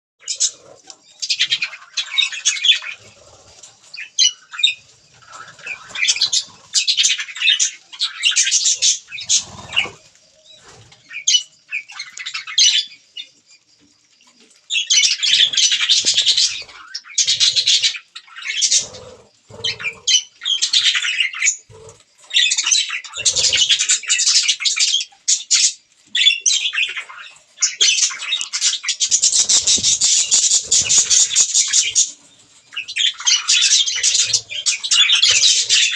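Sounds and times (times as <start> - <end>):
budgerigars chirping: 0.2 - 13.3, 14.7 - 35.9.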